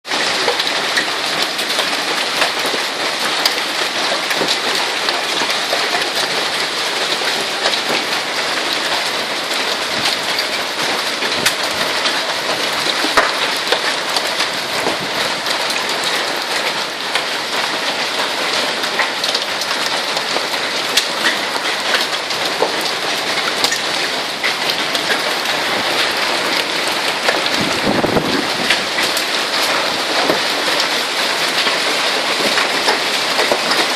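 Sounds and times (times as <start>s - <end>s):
hail clattering on surfaces: 0.1s - 33.9s.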